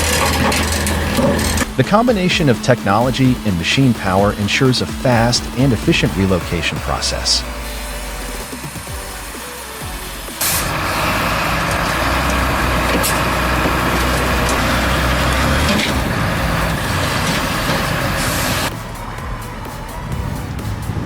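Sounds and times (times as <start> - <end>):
mechanical hiss and rattle: 0.0 - 19.0
diesel engine hum: 0.0 - 21.0.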